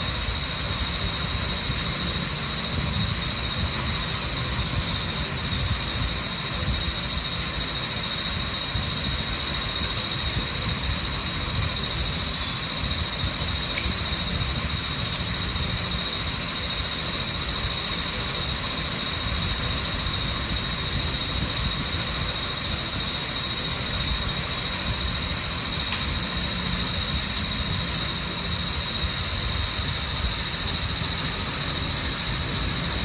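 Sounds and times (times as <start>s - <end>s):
high-pitched whine: 0.0s - 33.0s
steady background noise: 0.0s - 33.0s.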